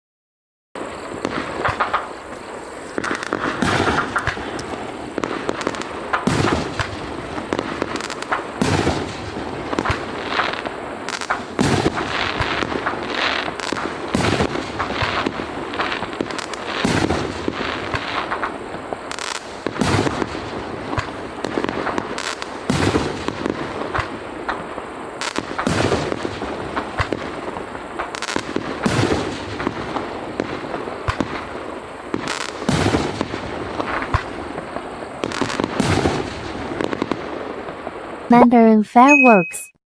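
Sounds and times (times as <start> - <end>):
fireworks bangs and pops: 0.8 - 39.1.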